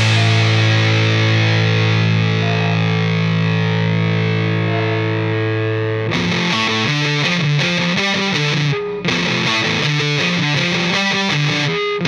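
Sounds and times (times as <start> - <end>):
rock music with distorted guitar: 0.0 - 12.0.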